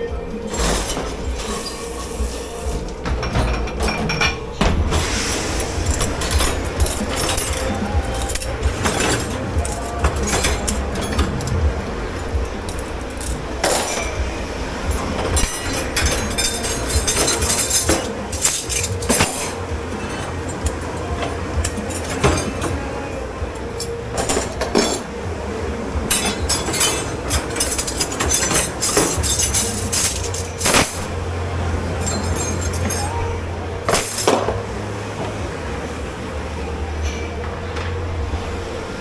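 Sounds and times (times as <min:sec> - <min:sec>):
dishes clinking and clattering: 0:00.0 - 0:36.0, 0:36.8 - 0:39.0
machine hum: 0:00.0 - 0:39.0.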